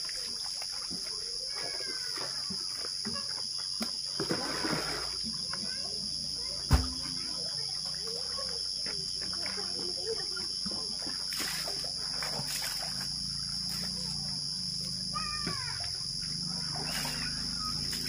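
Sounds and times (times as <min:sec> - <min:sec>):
water splashing: 0:00.0 - 0:05.8, 0:09.3 - 0:18.0
high-pitched insect drone: 0:00.0 - 0:18.0.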